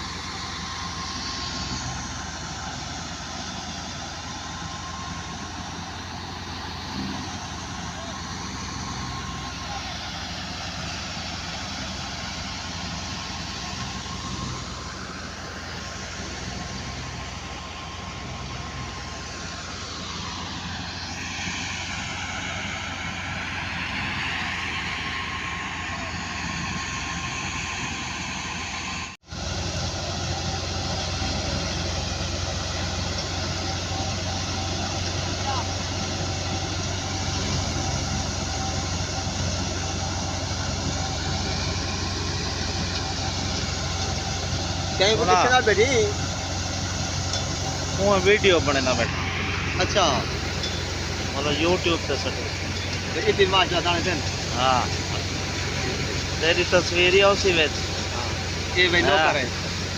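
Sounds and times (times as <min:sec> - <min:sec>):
engine hum: 0:00.0 - 0:59.9
faint pulsing whine: 0:00.0 - 0:59.9.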